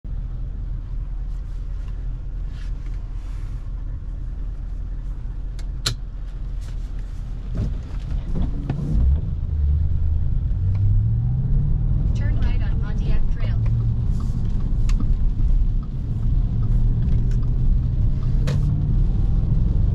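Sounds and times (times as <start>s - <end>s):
tyres on a wet road: 0.1s - 19.9s
car engine accelerating: 2.5s - 19.9s.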